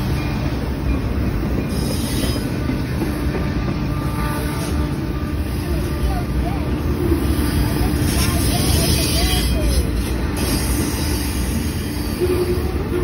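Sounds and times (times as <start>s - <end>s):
freight train cars rolling past: 0.0s - 13.0s.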